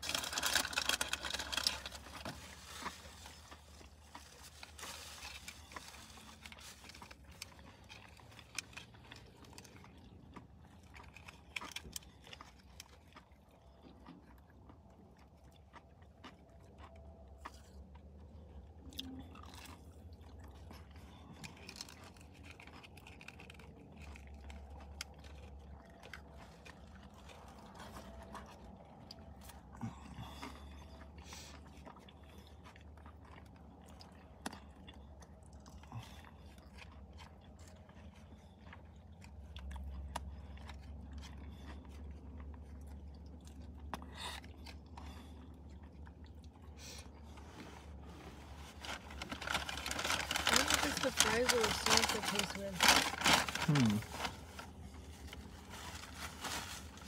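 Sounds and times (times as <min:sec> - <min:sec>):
chewing and biting food: 0:00.0 - 0:57.0.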